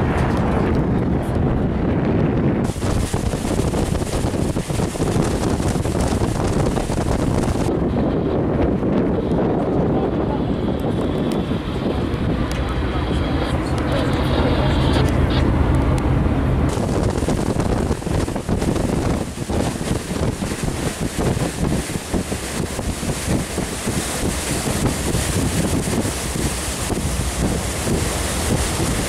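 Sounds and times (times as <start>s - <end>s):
gusty wind on microphone: 0.0s - 29.0s
waves washing: 2.6s - 8.2s, 10.0s - 29.0s.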